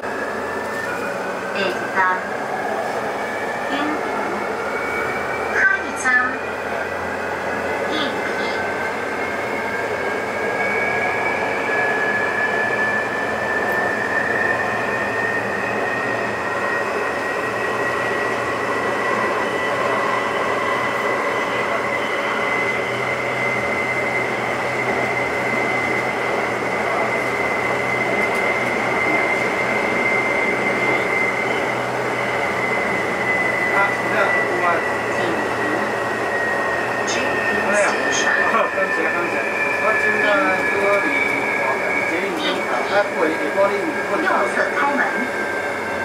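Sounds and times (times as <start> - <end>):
train rumbling: 0.0 - 46.0
high motor whine: 2.2 - 46.0.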